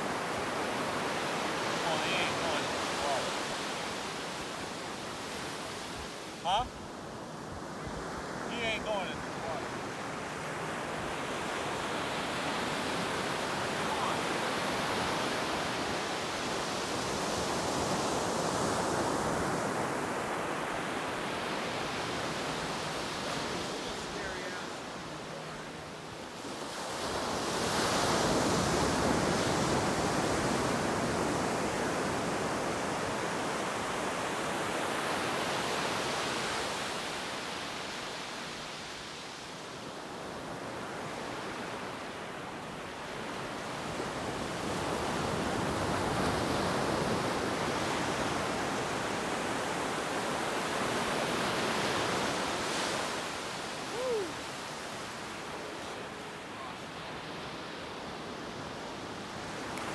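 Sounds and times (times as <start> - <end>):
ocean surf washing onto beach: 0.0 - 59.9.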